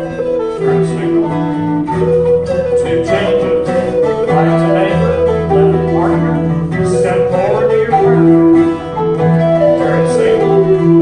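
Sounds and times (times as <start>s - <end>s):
acoustic guitar: 0.0s - 11.0s
bouzouki: 0.0s - 11.0s
recorder melody: 0.0s - 11.0s.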